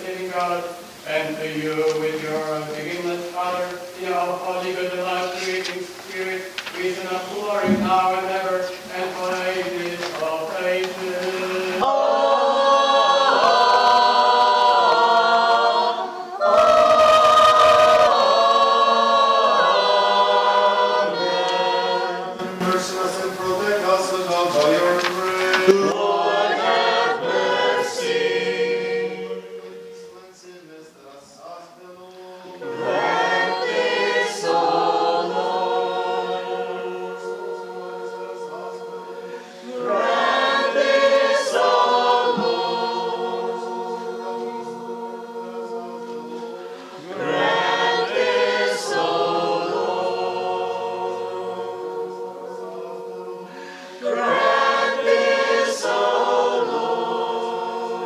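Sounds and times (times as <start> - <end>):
church choir singing a cappella: 0.0 - 58.0.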